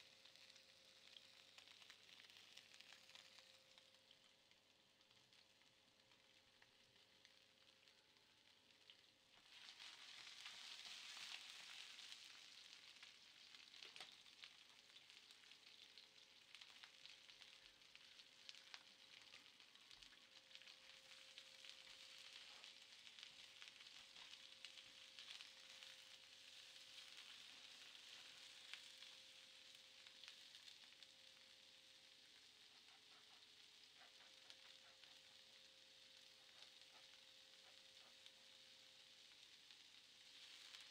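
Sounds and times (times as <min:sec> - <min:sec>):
faint steady hiss: 0:00.0 - 0:40.9.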